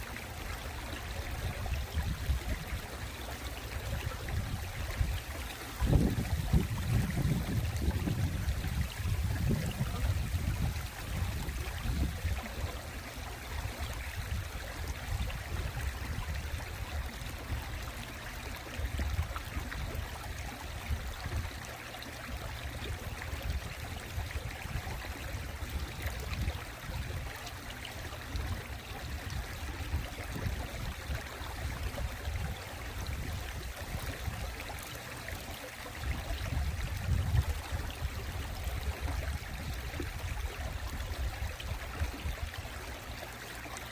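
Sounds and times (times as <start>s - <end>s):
stream water running over rocks: 0.0s - 43.9s.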